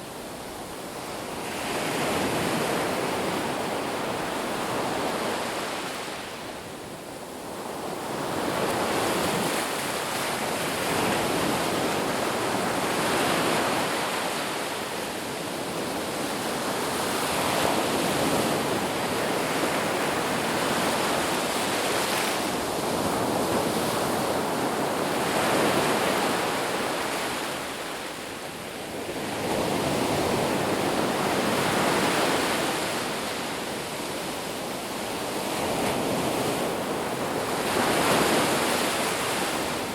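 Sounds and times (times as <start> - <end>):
sea waves breaking ashore: 7.4 - 39.9.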